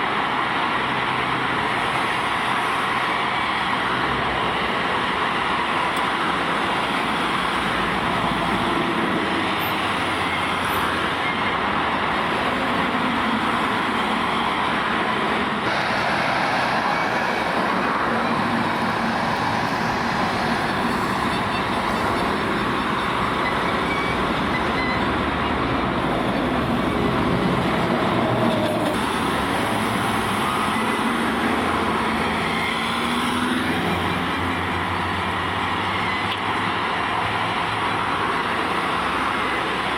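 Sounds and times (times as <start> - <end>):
dense road traffic: 0.0 - 39.9.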